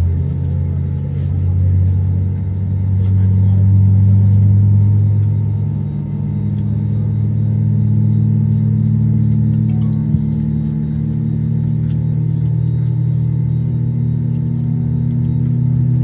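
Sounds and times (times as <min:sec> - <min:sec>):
jet engine cabin drone: 0:00.0 - 0:16.0.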